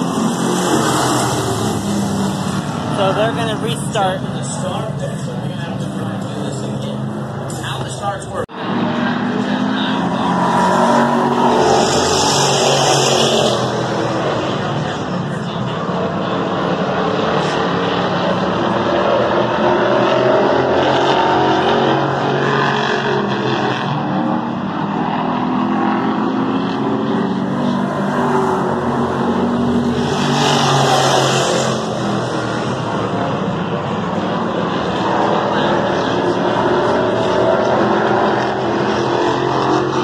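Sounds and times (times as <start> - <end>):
race car engines: 0.0 - 40.0.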